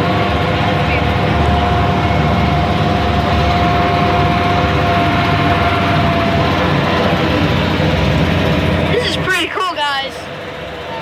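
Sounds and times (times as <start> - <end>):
boat engine droning: 0.0 - 11.0
high whine: 0.0 - 11.0.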